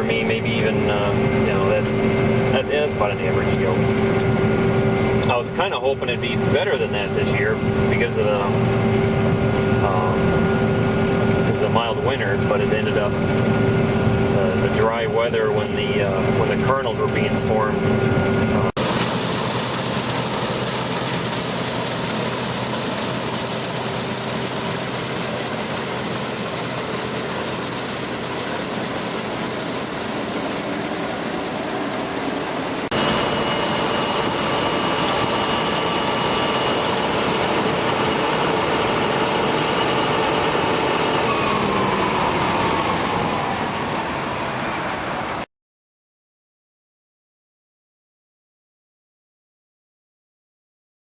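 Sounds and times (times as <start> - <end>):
steady high whine: 0.0 - 45.4
combine harvester drone: 0.0 - 45.5.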